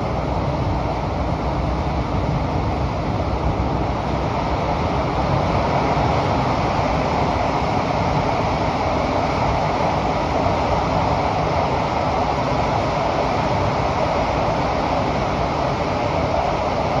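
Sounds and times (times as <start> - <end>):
metro train rumbling in tunnel: 0.0 - 17.0
wheel-on-rail noise: 0.0 - 17.0.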